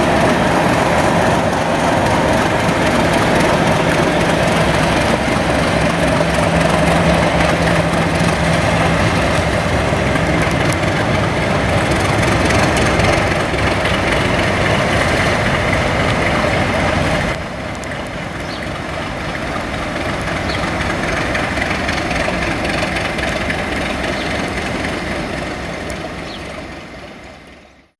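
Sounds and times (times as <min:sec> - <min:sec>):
low hum: 0:00.0 - 0:27.7
diesel locomotive engine running: 0:00.0 - 0:27.9.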